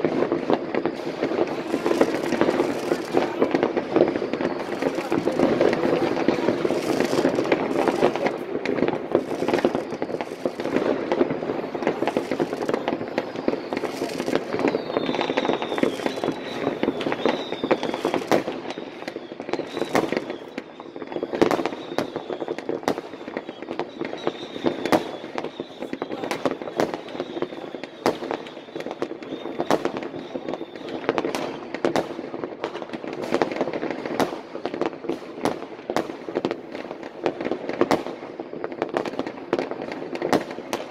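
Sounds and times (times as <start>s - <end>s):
faint high firework whistles: 0.0s - 40.9s
fireworks crackling and banging: 0.0s - 40.9s
loud sharp firework bangs: 0.0s - 40.9s.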